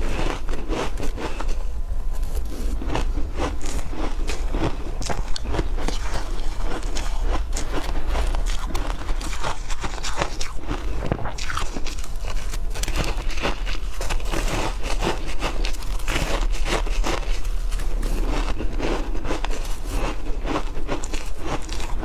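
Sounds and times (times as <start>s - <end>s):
ice being chewed crunching: 0.0s - 22.0s.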